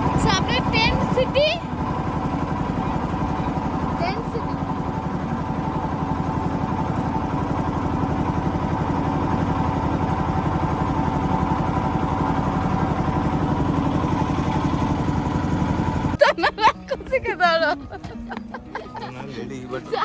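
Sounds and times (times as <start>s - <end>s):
boat motor chugging: 0.0s - 20.0s.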